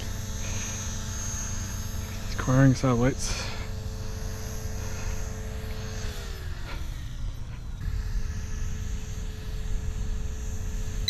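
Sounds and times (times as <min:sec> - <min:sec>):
faint electronic whine: 0:00.0 - 0:11.0.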